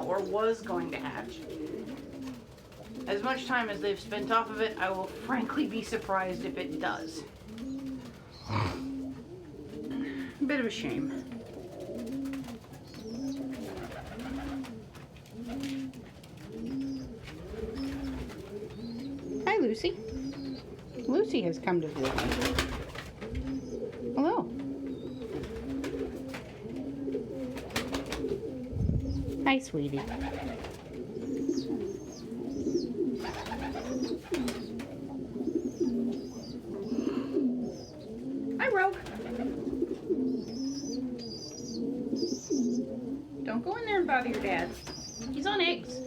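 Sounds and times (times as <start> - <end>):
pigeons cooing: 0.0 - 46.0.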